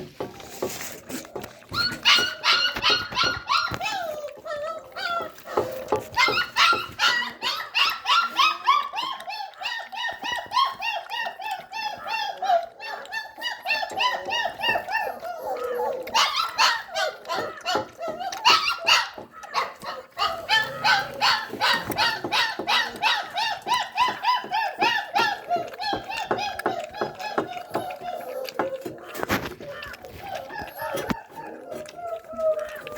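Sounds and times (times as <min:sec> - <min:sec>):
puppies yapping and barking: 0:00.0 - 0:32.9.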